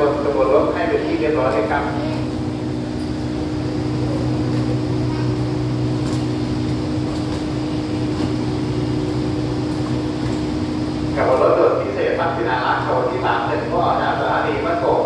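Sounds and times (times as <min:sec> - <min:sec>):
idling train hum: 0:00.0 - 0:15.0.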